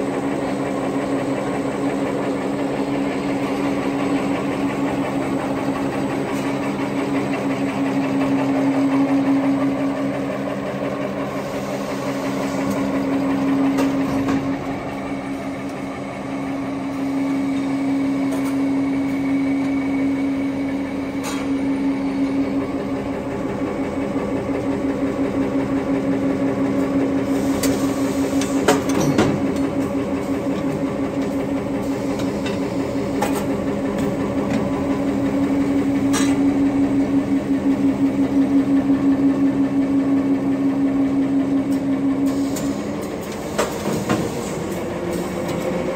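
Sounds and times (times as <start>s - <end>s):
machinery humming: 0.0s - 45.9s.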